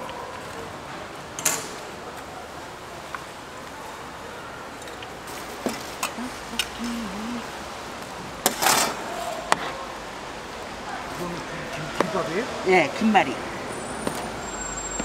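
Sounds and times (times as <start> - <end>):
steady background hiss: 0.4 - 15.0.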